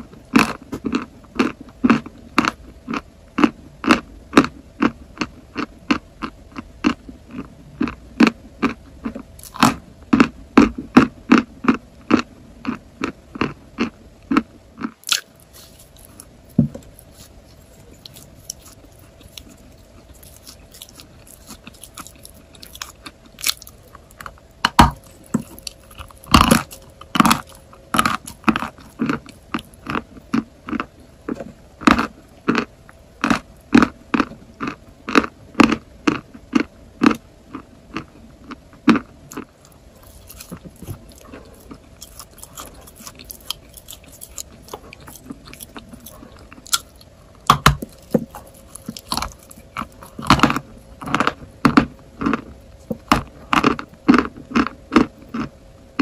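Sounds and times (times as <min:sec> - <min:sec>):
chalk crunching when chewed: 0:00.1 - 0:56.0.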